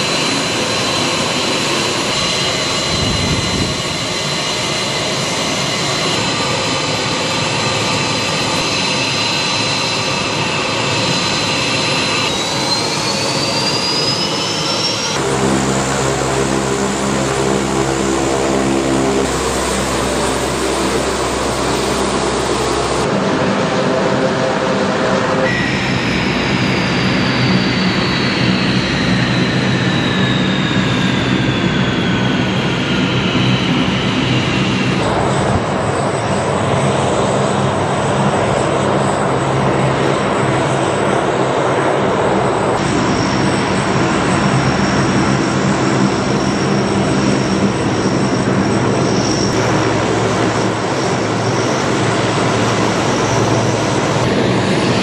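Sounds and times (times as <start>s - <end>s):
high turbine whine: 0.0s - 55.0s
propeller and engine drone: 0.0s - 55.0s.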